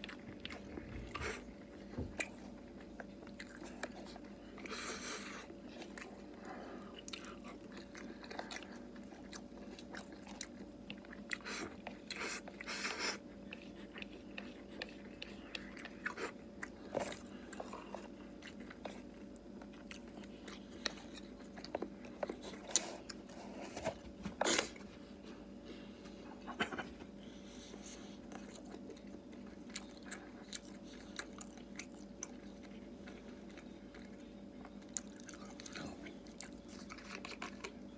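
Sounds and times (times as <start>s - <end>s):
person chewing: 0.0s - 24.9s, 27.6s - 37.9s
faint steady hum: 0.0s - 37.9s.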